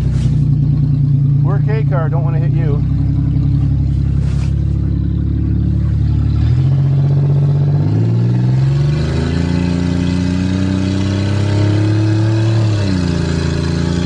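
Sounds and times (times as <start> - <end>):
car engine revving up: 0.0 - 14.0.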